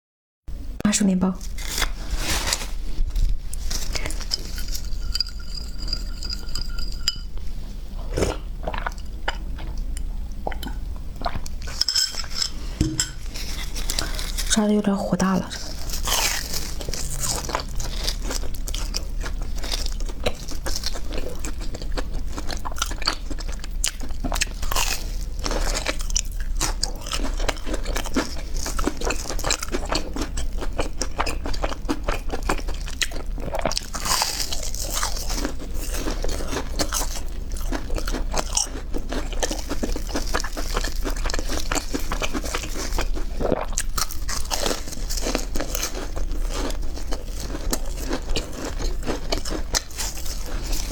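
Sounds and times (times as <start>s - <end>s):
crunchy chewing: 1.4s - 7.4s, 10.6s - 14.6s, 15.4s - 50.9s.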